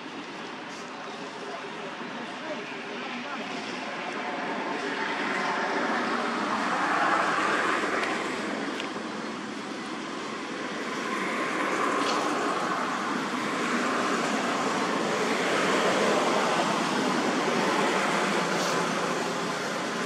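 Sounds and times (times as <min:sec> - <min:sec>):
outdoor background rush: 0:00.0 - 0:20.0.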